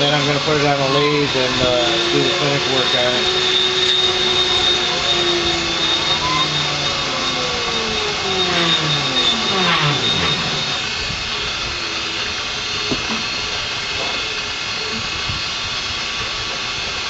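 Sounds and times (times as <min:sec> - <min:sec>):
motor tones gliding in pitch: 0:00.0 - 0:15.9
high whine: 0:00.0 - 0:17.0
milling machine cutting metal: 0:00.0 - 0:17.0.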